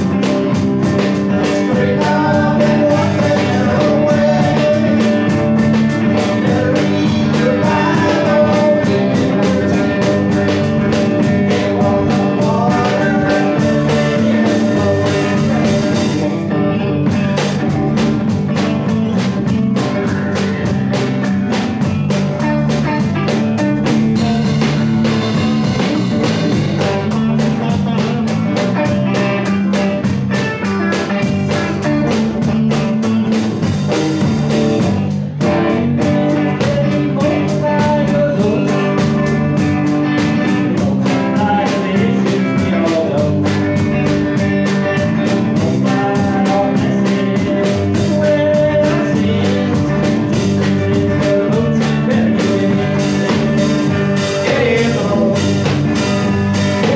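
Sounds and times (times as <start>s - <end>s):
live blues-rock band: 0.0s - 56.9s.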